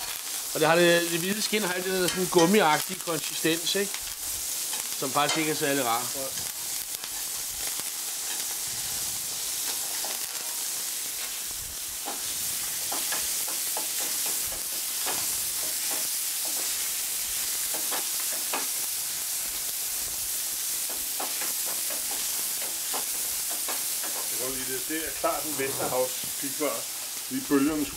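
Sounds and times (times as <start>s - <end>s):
fish sizzling in a pan: 0.0s - 27.9s.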